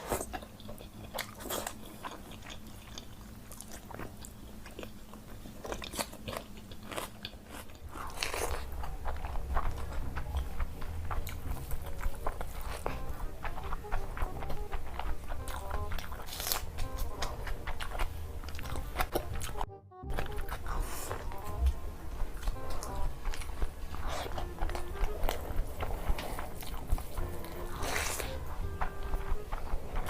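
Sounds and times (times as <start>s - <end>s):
crunchy chewing: 0.0s - 30.0s
steady low hum: 0.0s - 30.0s.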